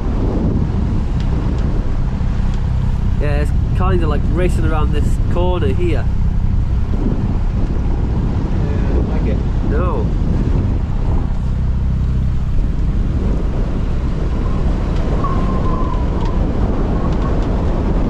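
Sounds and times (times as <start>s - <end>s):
boat engine droning: 0.0s - 18.0s
wind buffeting the microphone: 0.0s - 18.0s.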